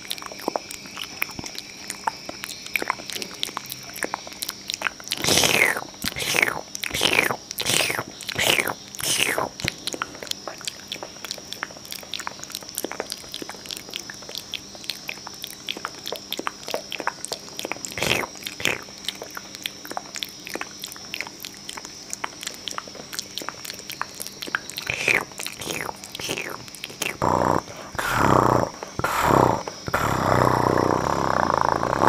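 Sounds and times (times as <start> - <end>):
wet mouth clicks and smacks: 0.0 - 31.8.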